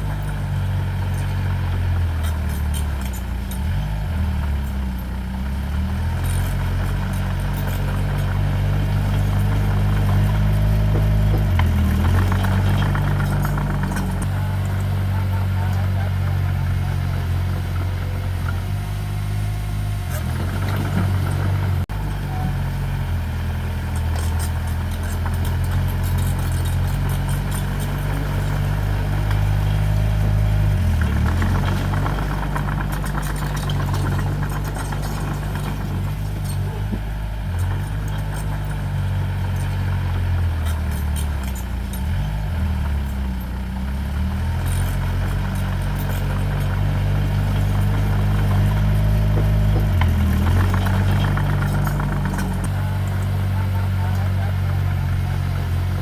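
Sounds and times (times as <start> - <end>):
light clatter: 0.0 - 18.9, 20.0 - 22.8, 23.4 - 56.0
diesel engine revving: 0.0 - 56.0.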